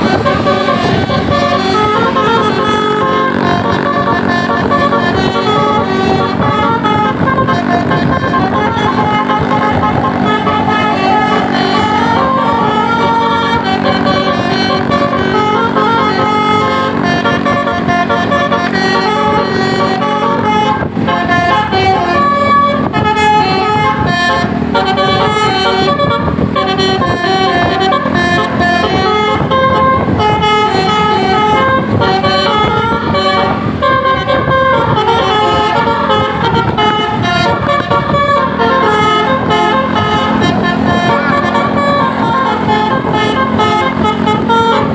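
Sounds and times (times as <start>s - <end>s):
musical bus horn playing a tune: 0.0s - 44.9s.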